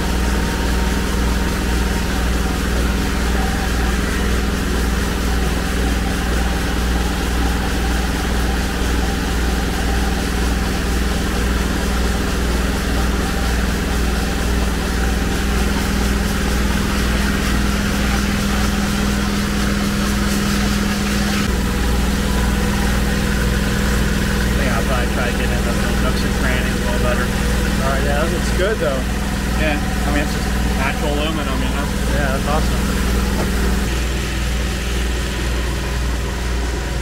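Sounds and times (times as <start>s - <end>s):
motor hum: 0.0s - 37.0s.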